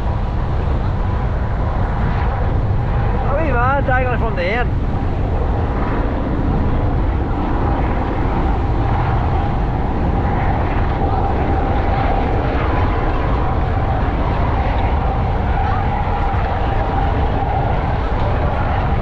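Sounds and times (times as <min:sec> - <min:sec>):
aircraft engine droning: 0:00.0 - 0:19.0.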